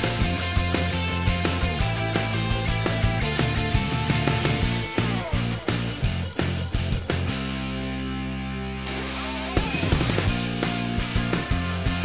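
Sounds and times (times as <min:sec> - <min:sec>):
steady drum beat: 0:00.0 - 0:07.7, 0:09.6 - 0:12.0.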